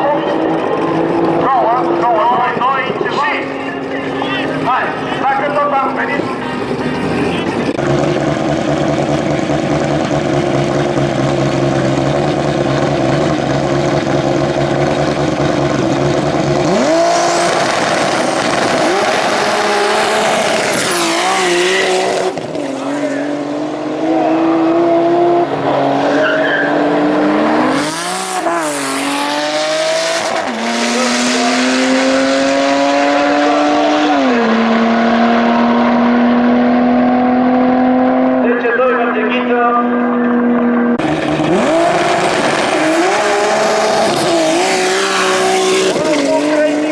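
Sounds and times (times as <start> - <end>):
turbocharged car engine revving: 0.0 - 46.9.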